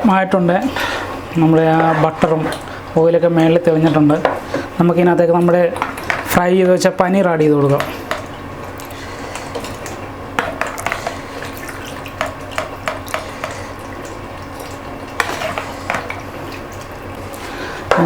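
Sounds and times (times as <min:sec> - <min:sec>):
food stirred in gravy: 0:00.7 - 0:06.5, 0:07.4 - 0:18.0.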